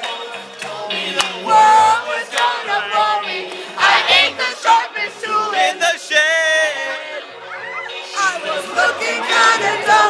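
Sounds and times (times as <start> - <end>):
group singing and shouting: 0.0 - 10.0
music: 0.0 - 10.0.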